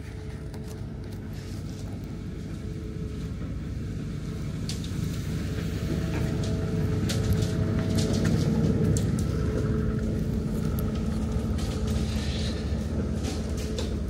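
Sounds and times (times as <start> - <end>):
construction machine engine running: 0.0 - 14.0.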